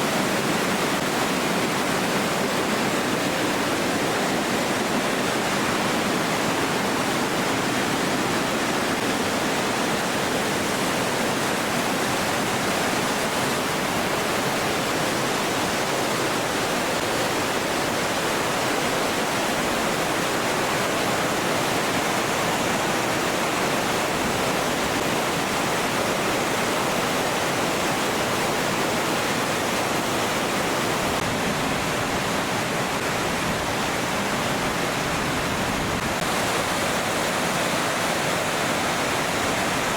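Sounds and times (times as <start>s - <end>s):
loud rush of falling water: 0.0s - 39.9s.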